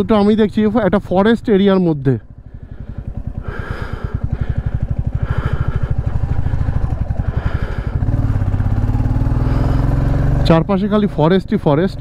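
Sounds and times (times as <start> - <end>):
motorcycle engine pulling hard: 1.8 - 12.0.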